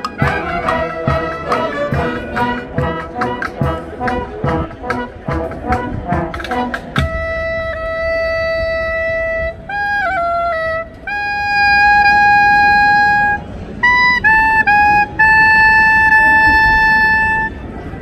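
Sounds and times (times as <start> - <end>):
clarinets playing slow melody: 0.0 - 17.8.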